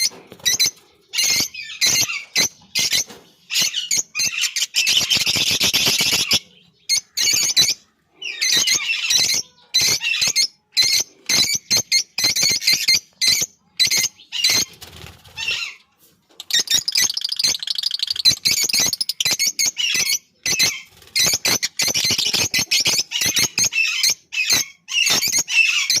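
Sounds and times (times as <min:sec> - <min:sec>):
lovebirds chirping and squawking: 0:00.0 - 0:26.0.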